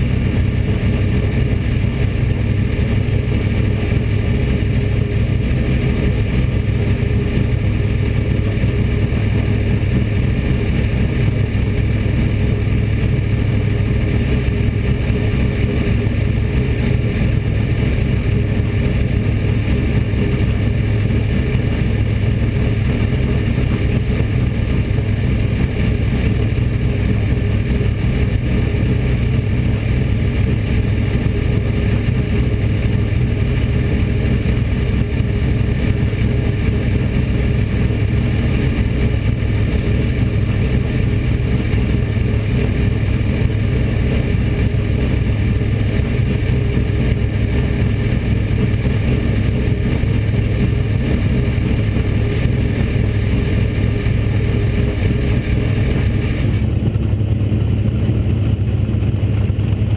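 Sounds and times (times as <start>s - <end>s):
race car engine idling: 0.0s - 59.9s.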